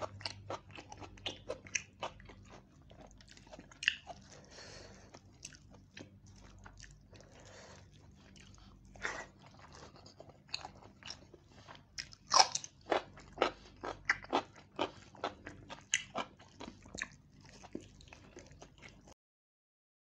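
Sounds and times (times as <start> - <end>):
person chewing food close up: 0.0 - 19.2.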